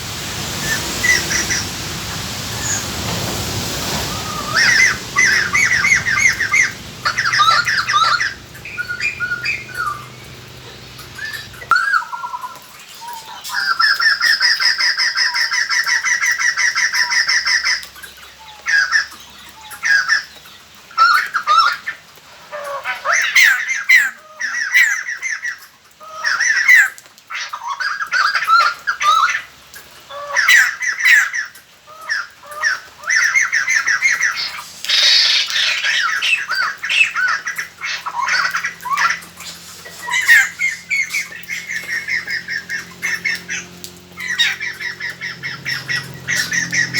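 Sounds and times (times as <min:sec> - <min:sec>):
birds chattering calls: 0:00.6 - 0:22.0, 0:22.6 - 0:46.9.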